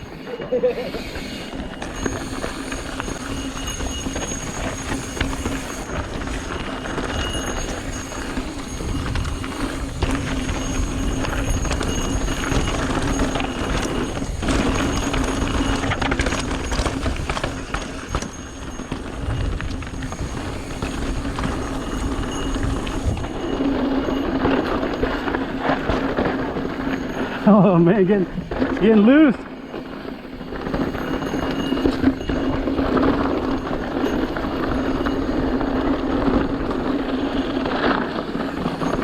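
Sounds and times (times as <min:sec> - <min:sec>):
bike rattling: 0:00.0 - 0:39.0
tyres crunching over rocks: 0:01.5 - 0:39.0.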